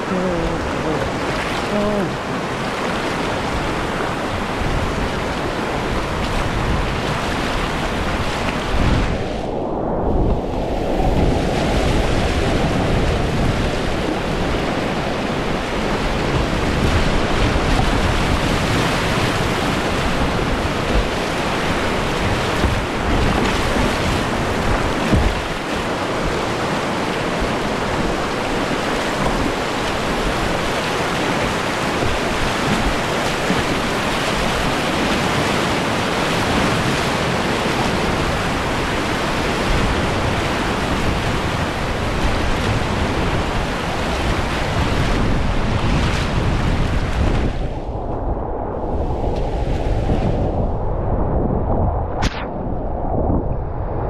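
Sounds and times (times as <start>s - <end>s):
whitewater rushing: 0.0s - 9.0s, 11.8s - 47.3s
low wind buffeting: 0.0s - 54.0s.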